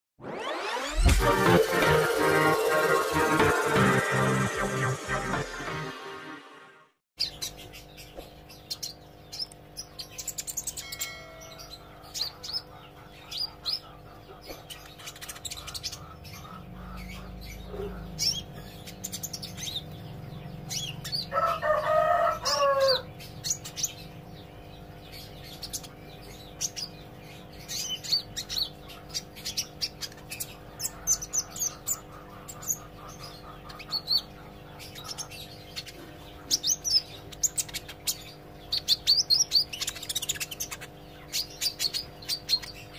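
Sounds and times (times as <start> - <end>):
sunbird chirping and twittering: 7.2 - 42.9.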